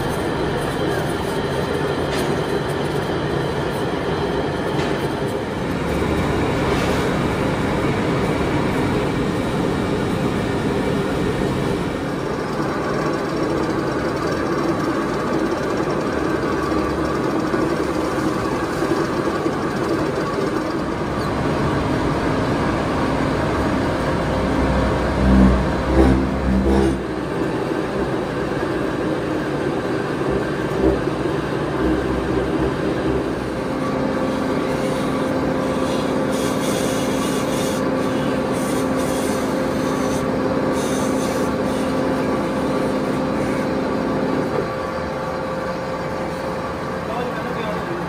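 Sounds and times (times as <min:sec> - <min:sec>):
metal-cutting machine running: 0:00.0 - 0:48.0.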